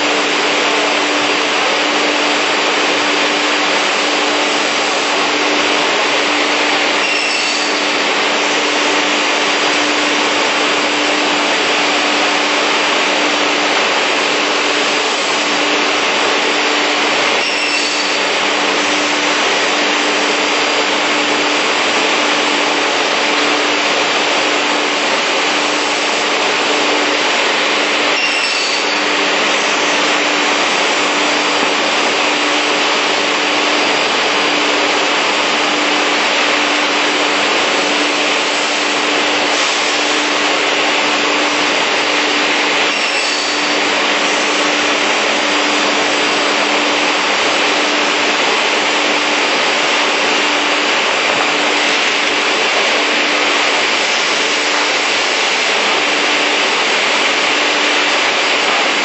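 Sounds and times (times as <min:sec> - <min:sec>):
beam saw rushing noise: 0:00.0 - 0:59.0.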